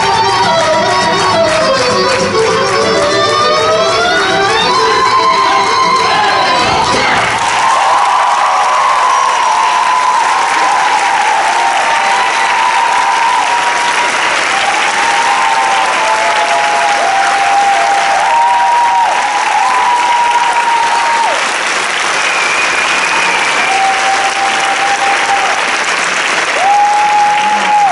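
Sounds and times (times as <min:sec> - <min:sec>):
audience applauding: 0:00.0 - 0:27.9.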